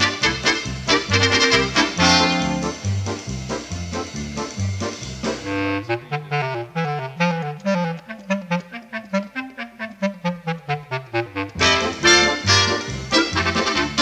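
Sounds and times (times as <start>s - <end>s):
instrumental music: 0.0s - 14.0s.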